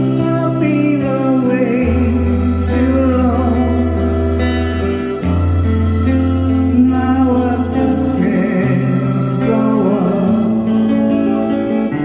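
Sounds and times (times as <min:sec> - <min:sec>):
instrumental accompaniment: 0:00.0 - 0:12.0
person singing: 0:00.0 - 0:12.0.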